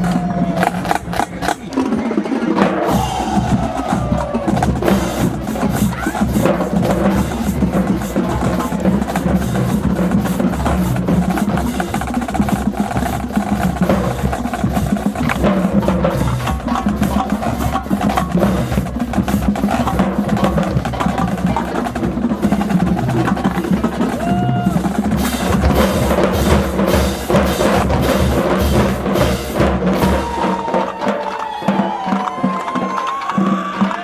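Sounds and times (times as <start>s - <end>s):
snare drum rolls: 0.0s - 34.0s.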